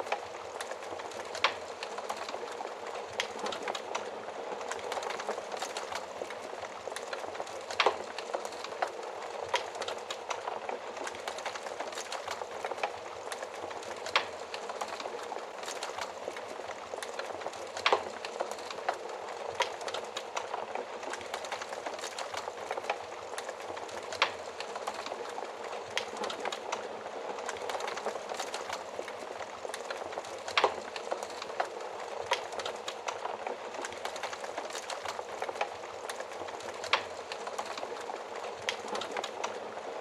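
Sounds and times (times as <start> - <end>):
wood fire crackling in an oven: 0.0 - 40.0.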